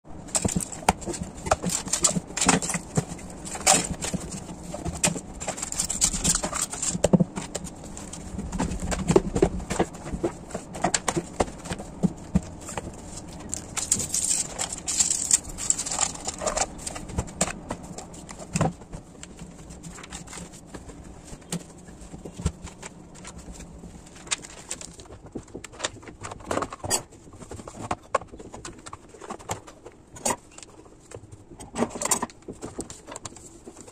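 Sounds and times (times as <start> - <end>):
paper rustling: 0.2 - 33.9.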